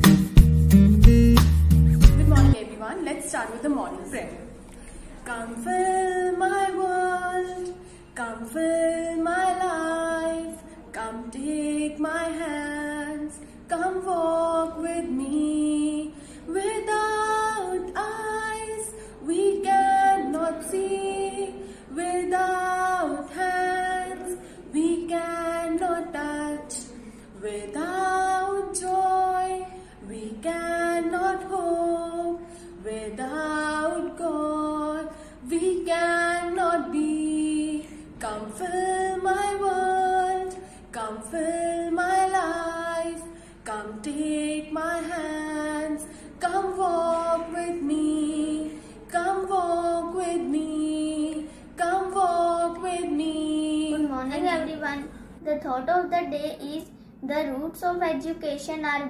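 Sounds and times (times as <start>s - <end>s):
girl singing hymn: 5.2s - 55.5s.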